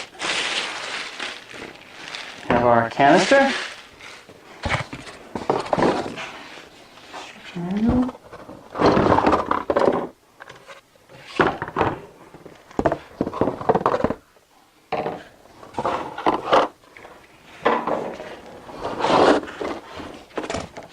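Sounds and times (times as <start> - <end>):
plastic vacuum parts clattering: 0.0 - 6.6, 7.9 - 14.2, 14.9 - 20.9.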